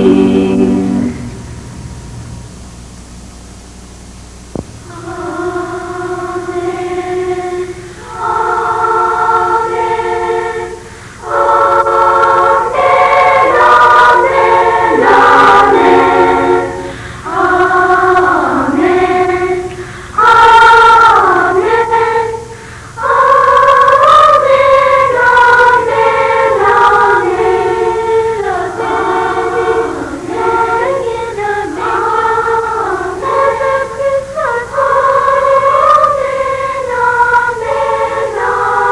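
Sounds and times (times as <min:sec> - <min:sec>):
choir singing: 0:00.0 - 0:01.4, 0:04.9 - 0:38.9.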